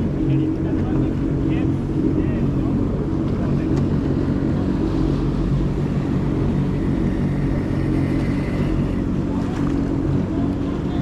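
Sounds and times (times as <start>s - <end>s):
jet ski engine humming: 0.0s - 11.0s.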